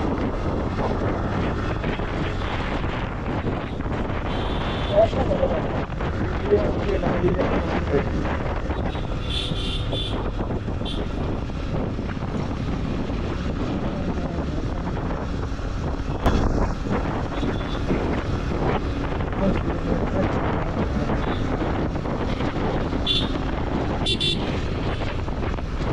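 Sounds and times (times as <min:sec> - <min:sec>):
road noise: 0:00.0 - 0:25.9
wind buffeting microphone: 0:00.0 - 0:25.9.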